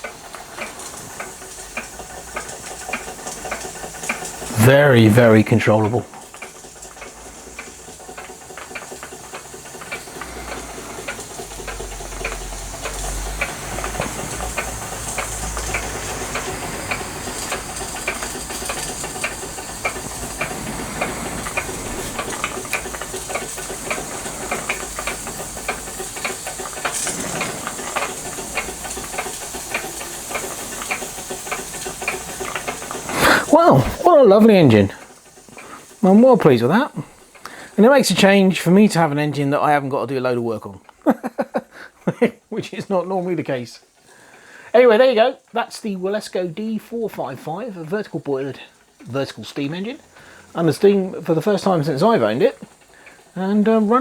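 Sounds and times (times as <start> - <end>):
steam engine piston ticking: 0.0 - 54.0
steam hiss: 0.0 - 54.0.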